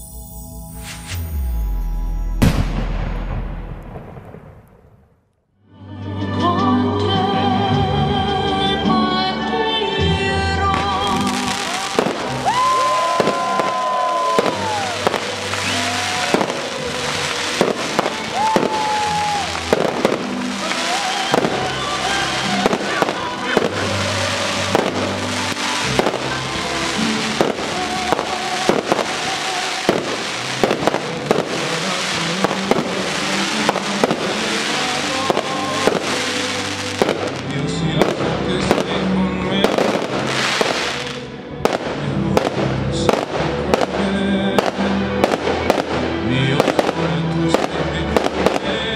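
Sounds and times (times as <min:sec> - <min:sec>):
music playing: 0:00.0 - 0:03.3, 0:05.6 - 0:48.9
fireworks bursting: 0:00.8 - 0:05.3, 0:10.7 - 0:48.9.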